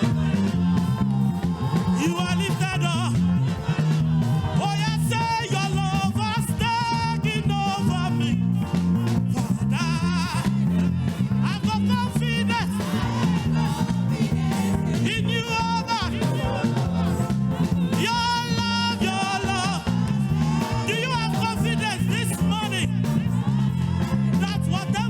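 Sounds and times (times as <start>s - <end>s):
band playing a groove: 0.0s - 25.0s
bass line: 0.0s - 25.0s
voices singing: 0.0s - 25.0s.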